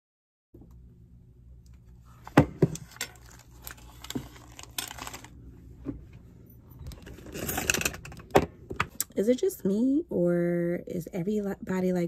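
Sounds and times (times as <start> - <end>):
low steady hum: 0.6 - 12.0.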